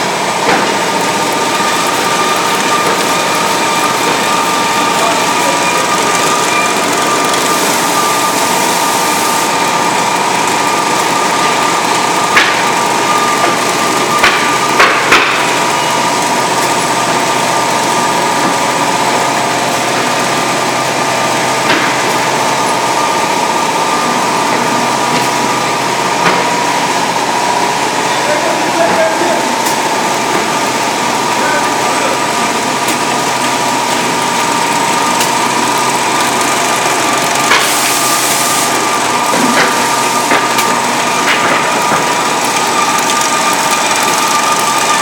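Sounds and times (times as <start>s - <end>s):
machine whirring and whining: 0.0s - 45.0s.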